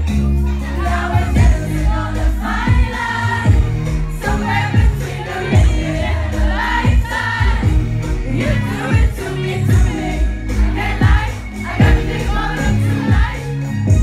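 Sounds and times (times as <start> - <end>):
heavy bass line: 0.0 - 14.0.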